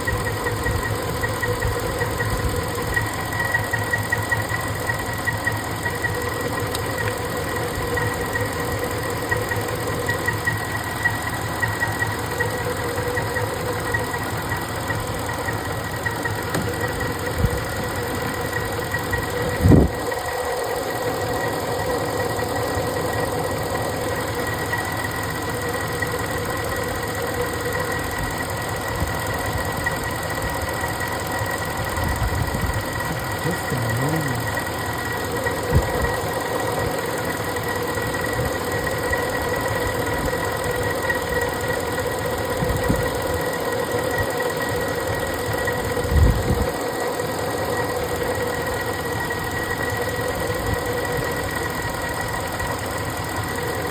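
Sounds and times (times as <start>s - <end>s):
engine idling: 0.0s - 53.9s.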